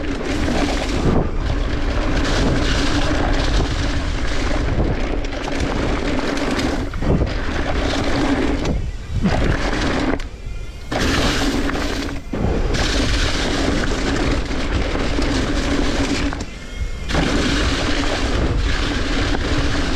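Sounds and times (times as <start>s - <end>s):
sawmill machinery drone: 0.0s - 19.9s.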